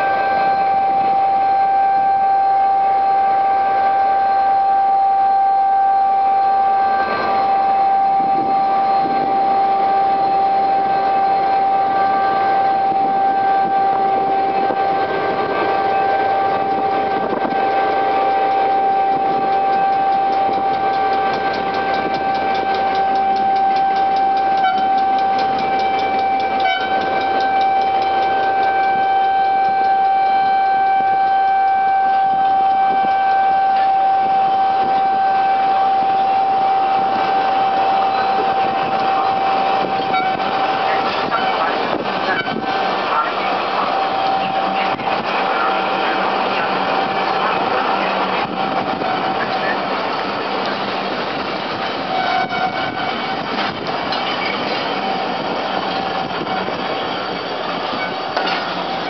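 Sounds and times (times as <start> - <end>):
locomotive engine running: 0.0 - 59.0
locomotive horn high tone: 0.0 - 59.0
train rolling: 0.0 - 59.0.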